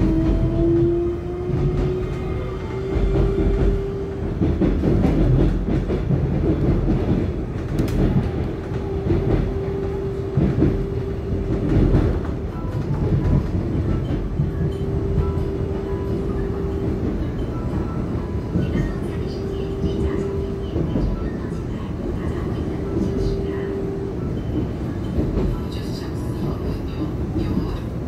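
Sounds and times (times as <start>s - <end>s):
train car rumbling on track: 0.0s - 28.0s
train hum: 0.0s - 28.0s.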